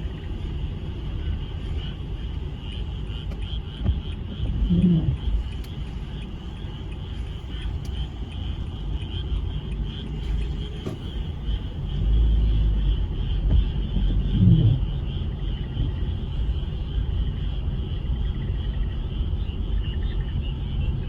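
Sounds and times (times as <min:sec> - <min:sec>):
low rumble: 0:00.0 - 0:20.9
frogs chorus: 0:01.1 - 0:21.0.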